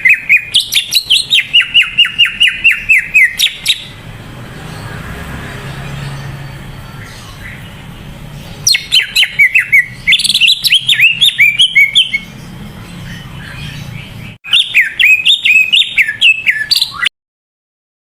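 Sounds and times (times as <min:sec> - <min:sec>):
bird singing whistled notes: 0:00.0 - 0:04.0, 0:06.0 - 0:17.1.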